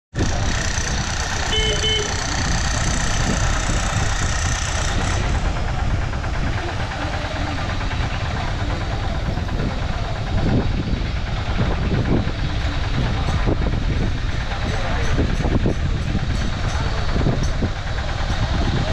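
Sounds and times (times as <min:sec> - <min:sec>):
train rumble with hiss: 0:00.2 - 0:18.9.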